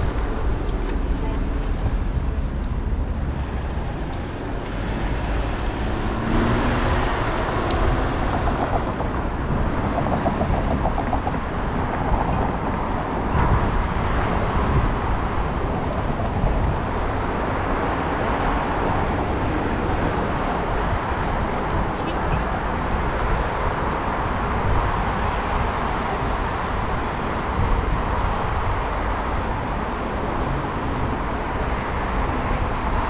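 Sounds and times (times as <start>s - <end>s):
cars passing: 0.0s - 33.0s
wind rumble on microphone: 0.0s - 33.0s.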